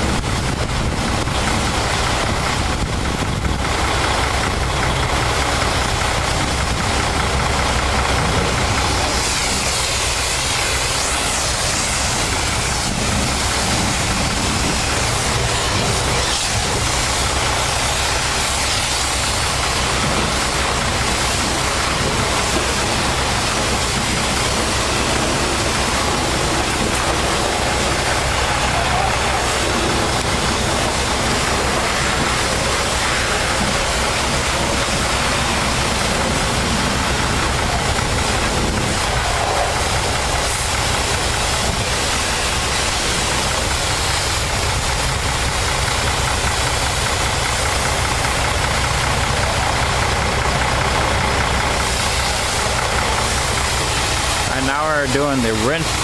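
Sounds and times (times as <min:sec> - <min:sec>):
engine droning: 0:00.0 - 0:56.0
water spraying from wand: 0:00.0 - 0:56.0.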